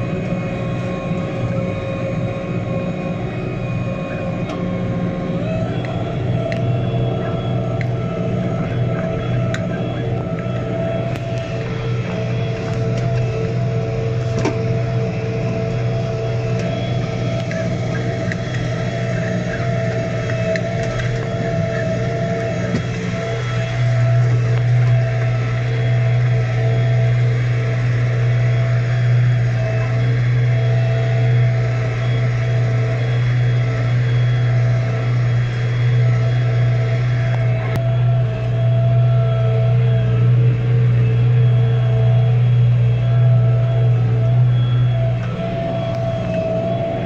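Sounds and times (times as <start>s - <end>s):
faint steady whine: 0.0s - 47.0s
tractor diesel engine under load: 0.0s - 47.0s.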